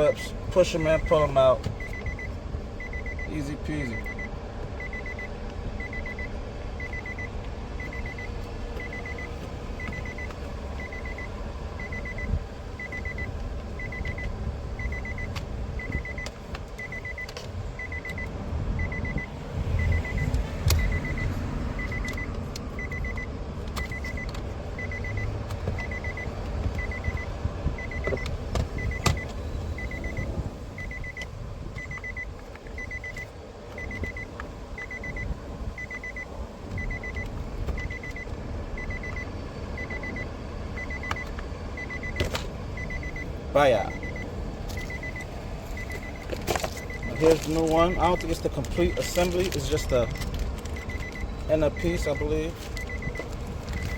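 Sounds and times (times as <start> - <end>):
car warning chime beeping: 0.0 - 53.9.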